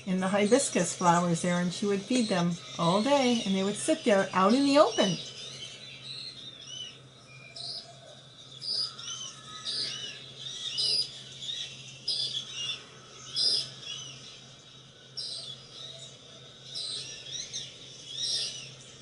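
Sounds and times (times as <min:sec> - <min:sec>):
faint low hum: 0:00.0 - 0:19.0
small birds chirping: 0:00.0 - 0:19.0.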